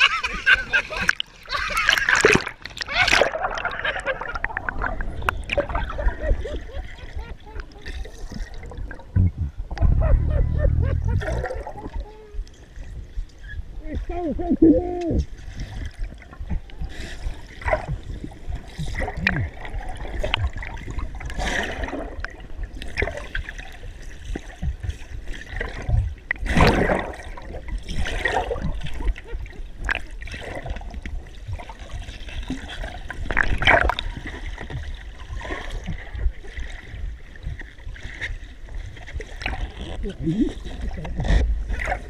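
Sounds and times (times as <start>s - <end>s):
water gurgling and splashing: 0.0s - 42.0s.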